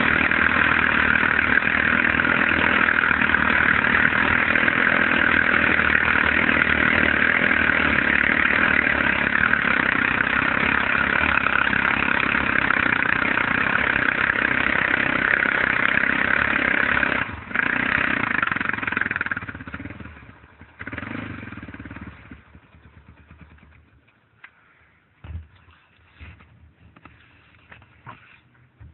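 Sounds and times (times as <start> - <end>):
atv engine running: 0.0 - 24.6.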